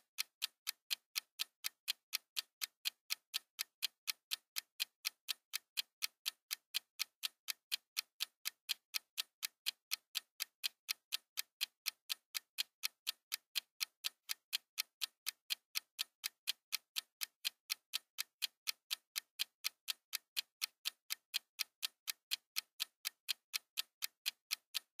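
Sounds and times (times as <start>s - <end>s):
oven timer ticking: 0.0s - 25.0s.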